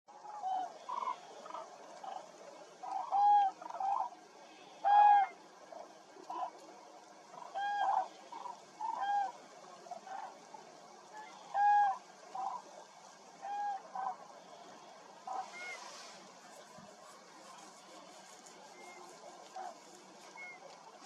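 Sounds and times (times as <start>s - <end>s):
cranes calling: 0.2s - 6.6s, 7.3s - 9.4s, 11.1s - 16.5s, 17.4s - 21.0s.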